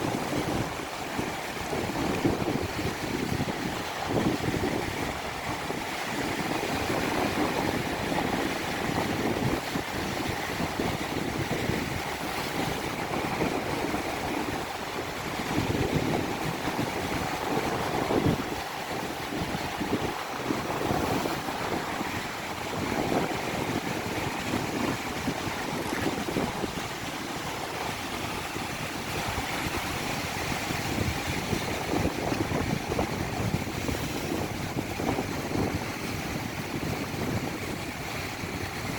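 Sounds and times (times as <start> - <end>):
sea surf breaking: 0.0 - 38.9
wind buffeting microphone: 0.0 - 38.9.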